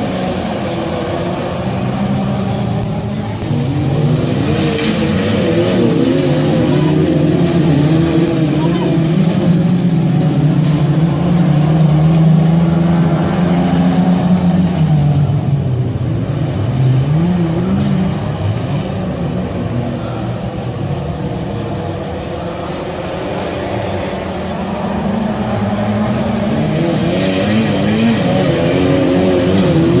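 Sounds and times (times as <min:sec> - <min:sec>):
race car engines revving hard: 0:00.0 - 0:30.0.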